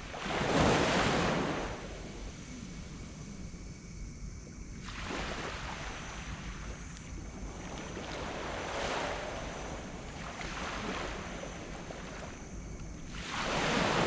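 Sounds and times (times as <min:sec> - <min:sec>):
small waves washing on sand: 0:00.0 - 0:02.4, 0:04.8 - 0:14.0.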